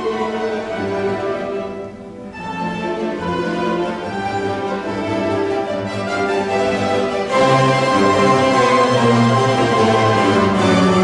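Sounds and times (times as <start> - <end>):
mandolin orchestra playing: 0.0 - 11.0.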